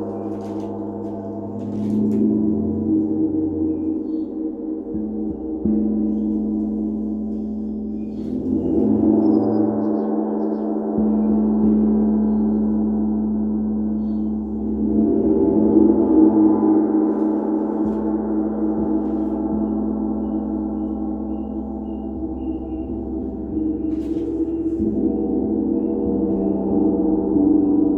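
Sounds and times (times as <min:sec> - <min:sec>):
gong ringing: 0:00.0 - 0:27.9.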